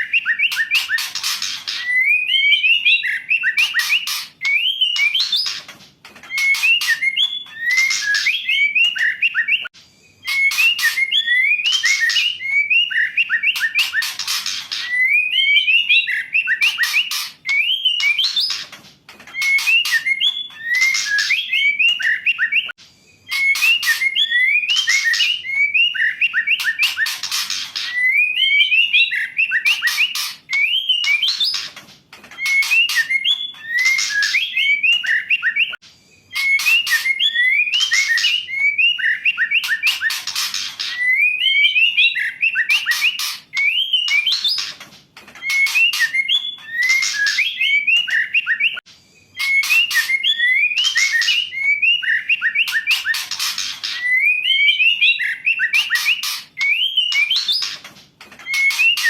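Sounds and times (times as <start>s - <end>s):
bird whistling and chattering: 0.0s - 44.8s, 45.4s - 59.0s.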